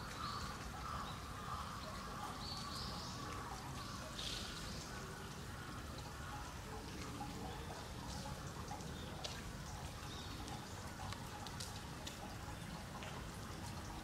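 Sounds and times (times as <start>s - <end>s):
small water drips: 0.0s - 14.0s
water trickling: 0.0s - 14.0s.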